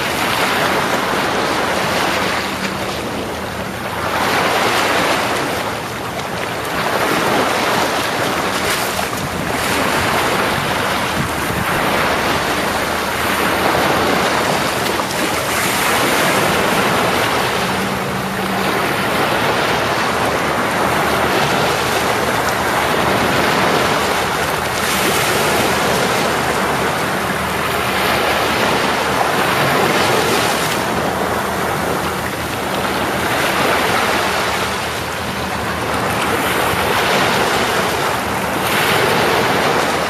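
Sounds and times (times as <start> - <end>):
ocean surf washing ashore: 0.0 - 40.0.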